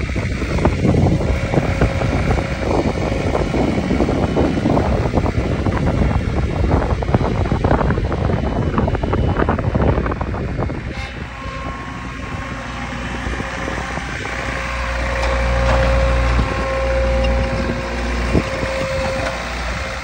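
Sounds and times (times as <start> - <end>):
mower engine running: 0.0 - 20.0
wind buffeting microphone: 0.0 - 20.0.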